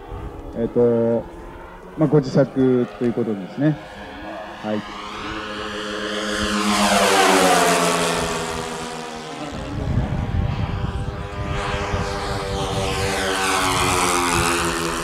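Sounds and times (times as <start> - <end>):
model airplane propeller engines droning: 0.0 - 15.0.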